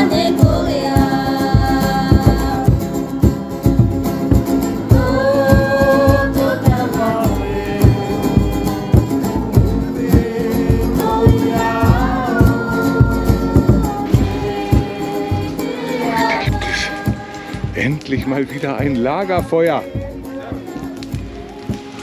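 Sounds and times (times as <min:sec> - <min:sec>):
song with vocals over beat: 0:00.0 - 0:22.0.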